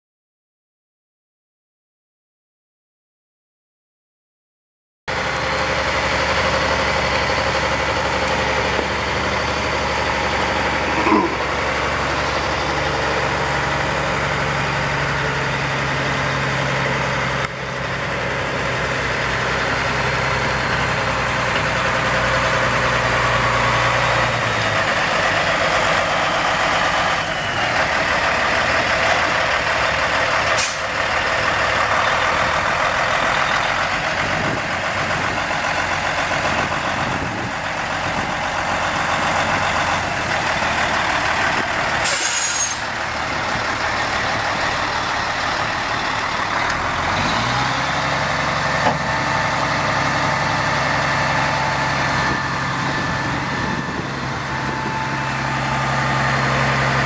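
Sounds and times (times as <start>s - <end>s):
diesel truck engine idling: 5.1s - 57.0s.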